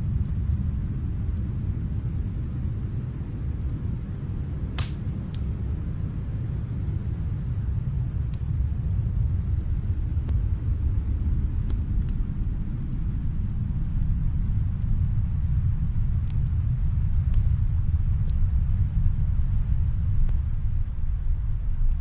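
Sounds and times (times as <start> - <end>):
deep rumble of snowstorm: 0.0 - 22.0
wood fire crackling: 0.0 - 22.0.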